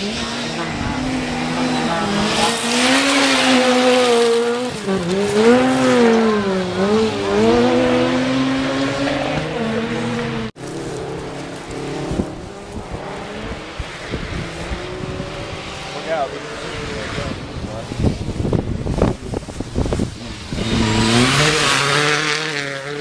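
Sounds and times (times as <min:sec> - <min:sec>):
outdoor noise: 0:00.0 - 0:23.0
rally car engine revving: 0:00.0 - 0:23.0.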